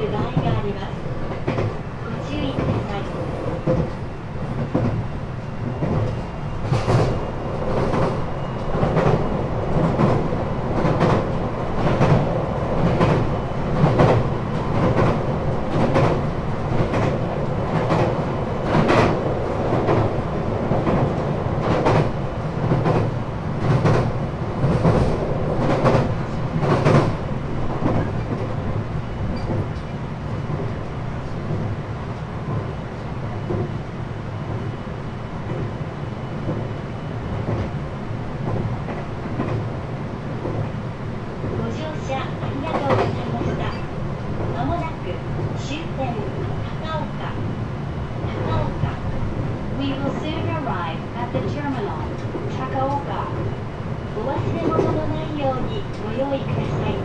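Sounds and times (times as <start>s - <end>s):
train low rumble: 0.0s - 57.0s.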